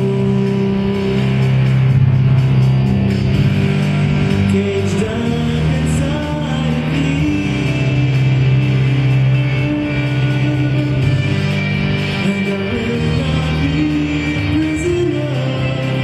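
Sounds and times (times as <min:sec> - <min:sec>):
low bass notes: 0:00.0 - 0:16.0.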